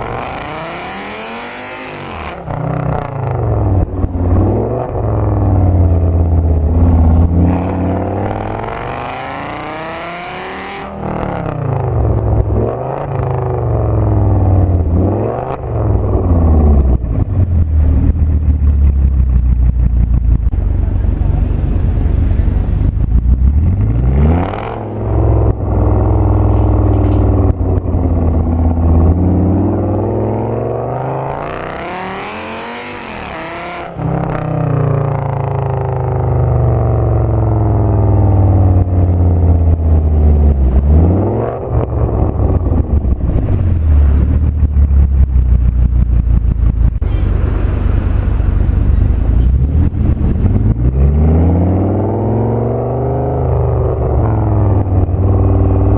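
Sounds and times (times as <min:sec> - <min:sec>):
car engine revving through gears: 0:00.0 - 0:17.4, 0:22.8 - 0:36.2, 0:36.8 - 0:47.1, 0:49.2 - 0:55.9.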